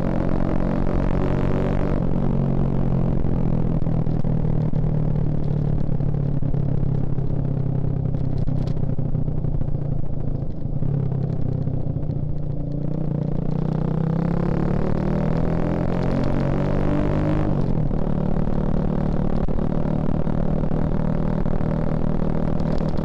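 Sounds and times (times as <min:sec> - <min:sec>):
motorcycle engine revving: 0:00.0 - 0:06.0, 0:10.2 - 0:23.0.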